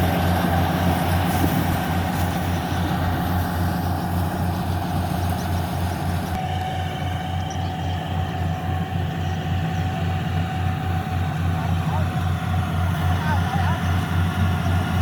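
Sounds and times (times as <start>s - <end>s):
combine harvester engine rumble: 0.0s - 15.0s
machinery whine: 0.0s - 15.0s.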